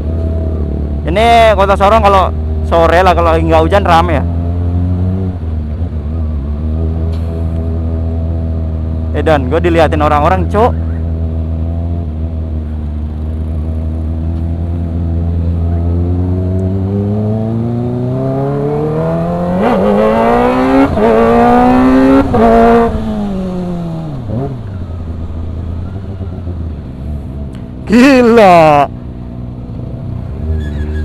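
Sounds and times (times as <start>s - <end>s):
motorcycle engine revving: 2.1s - 9.6s, 10.7s - 31.0s.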